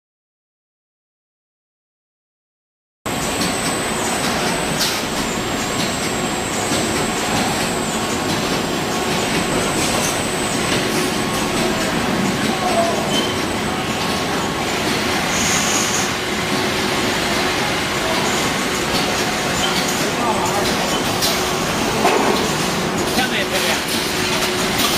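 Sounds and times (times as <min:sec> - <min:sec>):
packaging machine din: 0:03.1 - 0:24.9.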